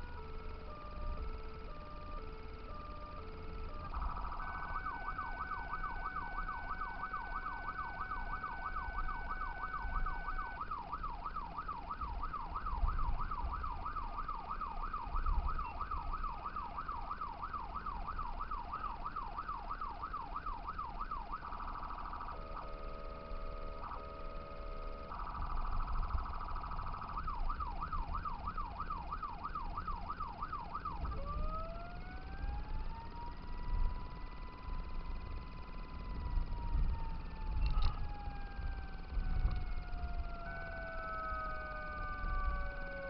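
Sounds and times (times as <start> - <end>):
car road rumble: 0.0 - 43.0
electronic siren yelping: 0.0 - 43.0.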